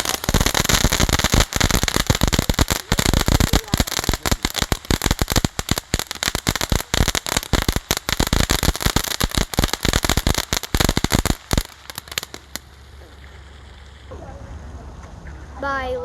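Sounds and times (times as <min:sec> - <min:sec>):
firework cracks and pops: 0:00.0 - 0:14.1.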